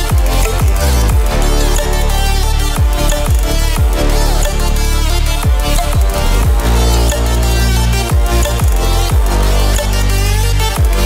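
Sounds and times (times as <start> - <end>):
bass hits sliding down: 0.0 - 11.0
electronic music with heavy bass: 0.0 - 11.0.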